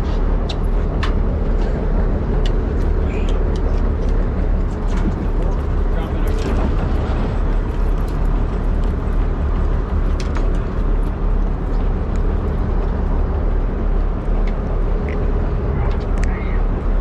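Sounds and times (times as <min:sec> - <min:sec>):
boat engine rumbling: 0:00.0 - 0:17.0
water noise: 0:00.0 - 0:17.0
wind: 0:00.0 - 0:17.0.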